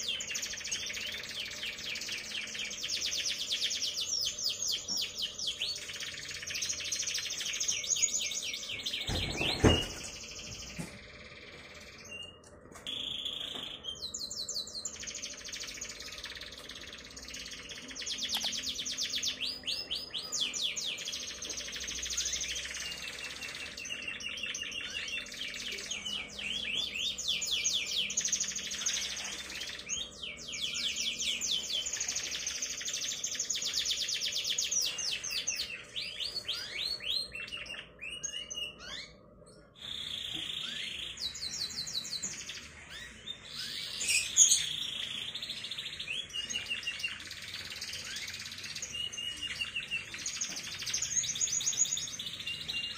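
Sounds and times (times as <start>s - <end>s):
canary singing trills: 0.0s - 52.9s.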